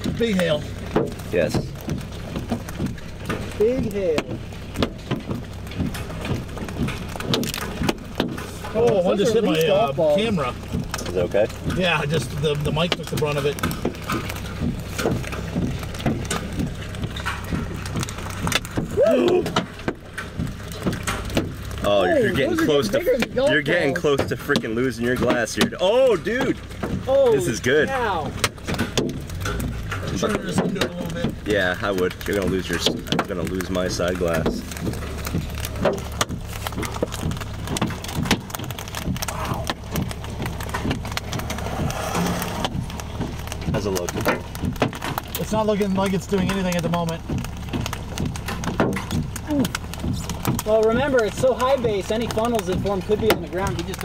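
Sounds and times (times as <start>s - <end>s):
hailstones striking a vehicle: 0.0s - 54.0s
low rumble: 0.0s - 54.0s.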